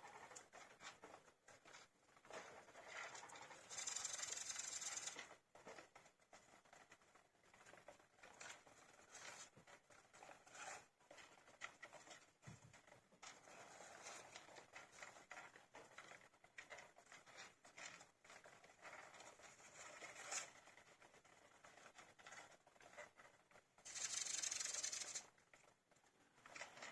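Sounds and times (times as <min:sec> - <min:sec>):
hamsters scratching and rustling: 0:00.0 - 0:26.9.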